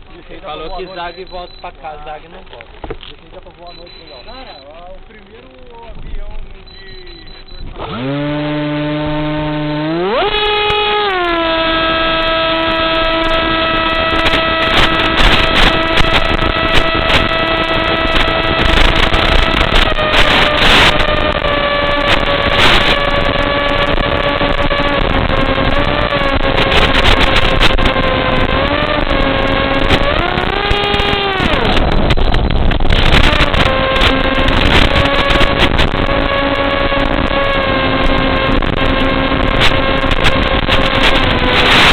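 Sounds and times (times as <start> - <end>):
bursts of noise: 0.0 - 41.9
model airplane motor whine: 6.5 - 41.9.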